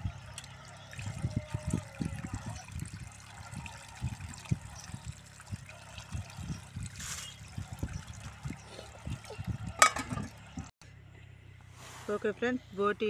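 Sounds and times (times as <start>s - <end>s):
water sloshing in a steel bowl: 0.0s - 10.7s.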